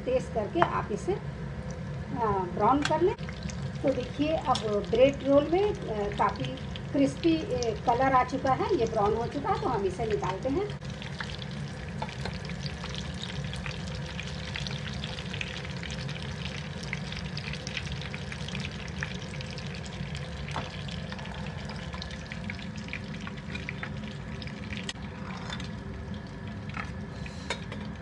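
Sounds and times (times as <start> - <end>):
steady low hum: 0.0 - 28.0
food deep-frying in hot oil: 0.1 - 28.0.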